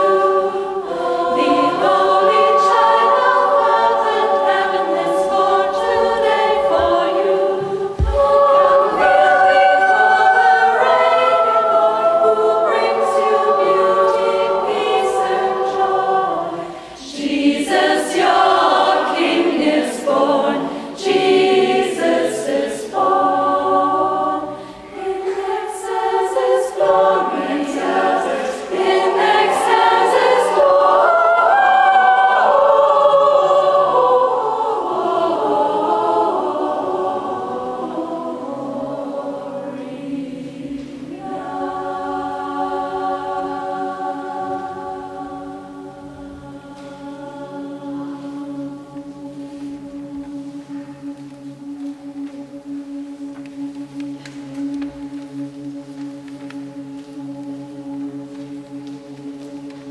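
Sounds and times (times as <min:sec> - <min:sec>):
women's choir singing: 0:00.0 - 0:59.9.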